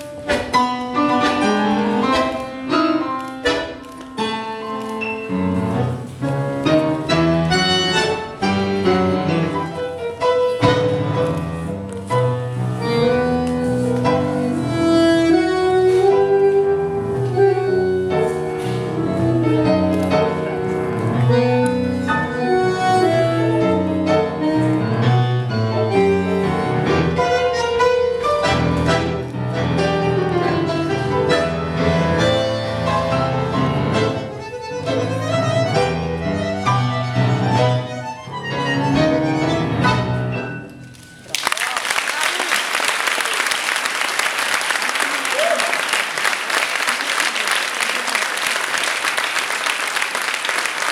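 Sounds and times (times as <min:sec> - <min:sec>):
piano: 0:00.0 - 0:50.9.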